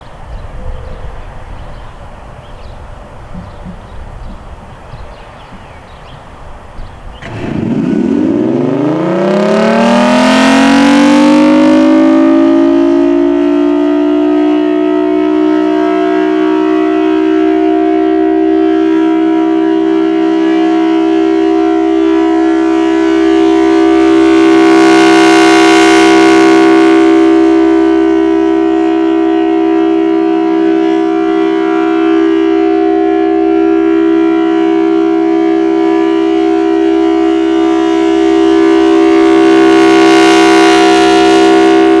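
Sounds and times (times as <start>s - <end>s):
low-pitch warning siren: 4.5s - 42.0s.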